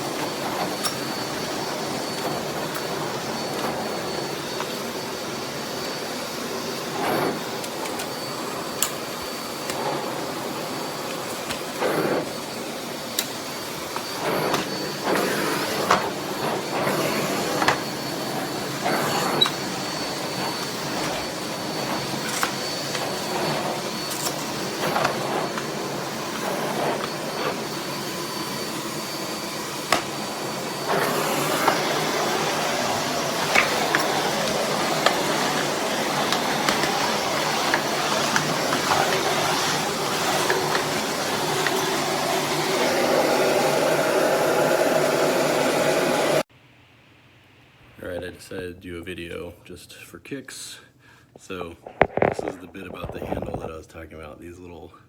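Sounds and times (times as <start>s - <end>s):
vacuum cleaner running: 0.0s - 46.5s, 51.6s - 53.6s.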